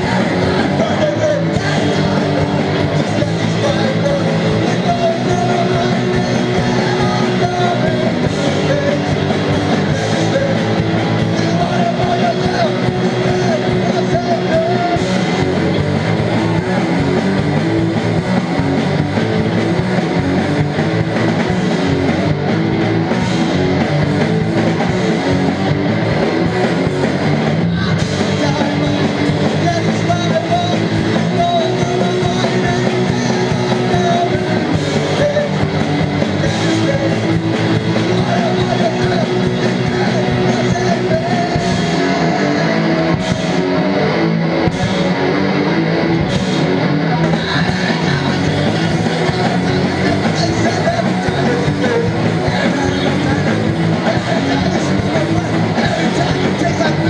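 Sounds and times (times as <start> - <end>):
distorted electric guitars: 0.0 - 57.0
drums: 0.0 - 57.0.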